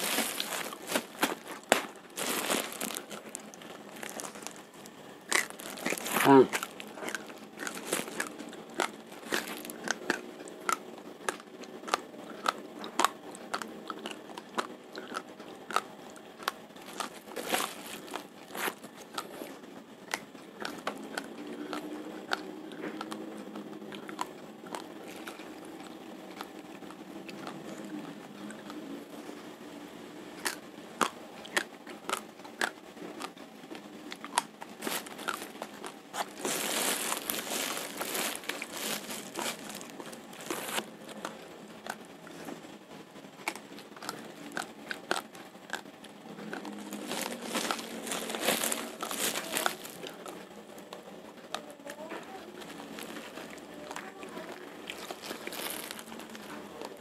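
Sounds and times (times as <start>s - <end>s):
raw rice crunching in teeth: 0.0s - 4.7s, 5.3s - 28.8s, 30.4s - 42.6s, 43.4s - 51.6s, 52.3s - 57.0s.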